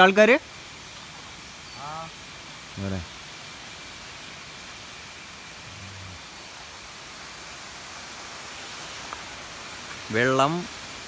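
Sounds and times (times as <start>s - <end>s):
even outdoor hiss: 0.0s - 11.0s
high-pitched insect drone: 0.0s - 11.0s.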